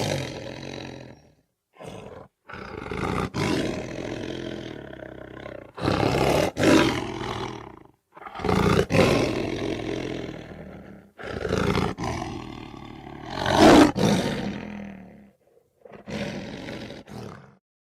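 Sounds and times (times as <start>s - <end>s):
lion roaring: 0.0s - 17.6s.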